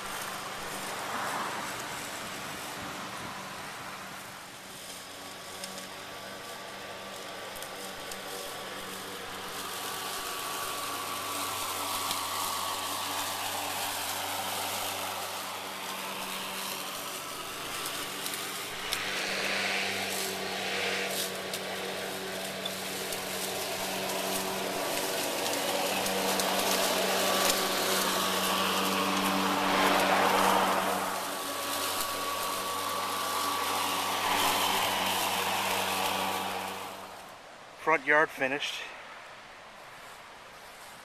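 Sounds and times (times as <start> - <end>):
electric lawn mower cutting grass: 0.0 - 37.6.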